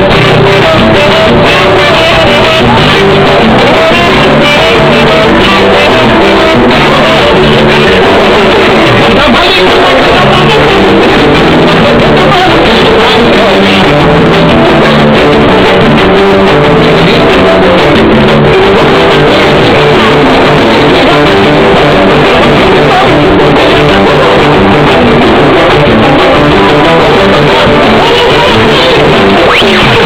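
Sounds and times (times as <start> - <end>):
loud band music with singing: 0.0 - 30.0.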